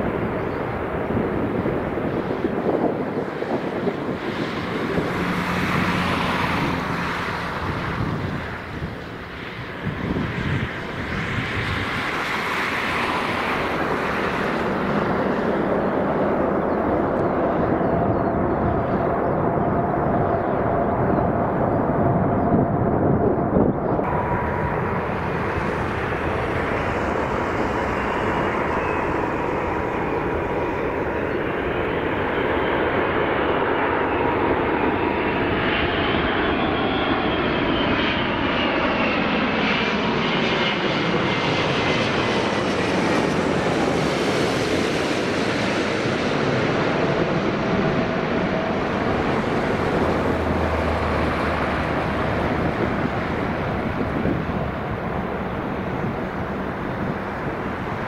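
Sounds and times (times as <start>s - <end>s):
jet airliner passing overhead: 0.0s - 58.0s
whining jet engine tones: 0.0s - 58.0s.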